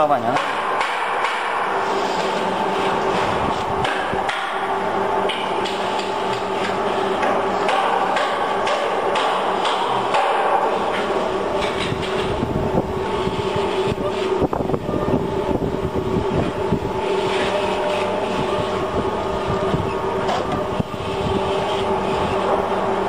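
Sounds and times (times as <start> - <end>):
motor hum: 0.0 - 23.0.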